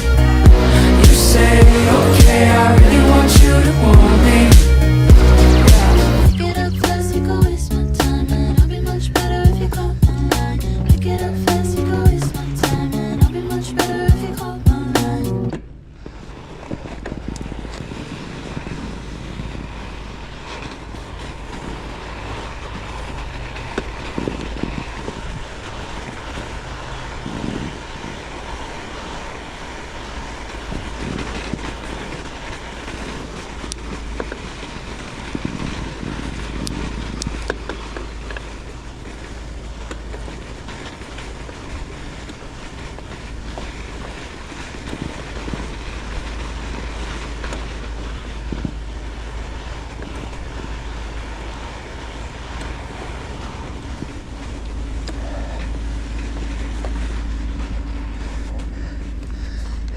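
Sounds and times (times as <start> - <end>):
rushing noise of movement: 0.0 - 59.9
wind rumble on microphone: 0.0 - 59.9.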